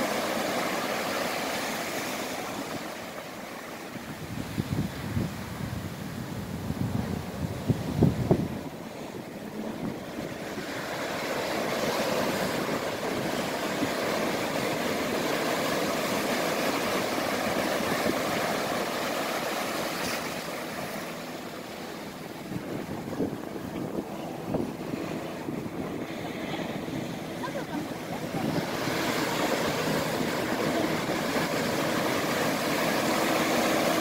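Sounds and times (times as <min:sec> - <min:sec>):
ocean surf breaking: 0:00.0 - 0:34.0
wind buffeting microphone: 0:04.0 - 0:19.9, 0:21.5 - 0:34.0.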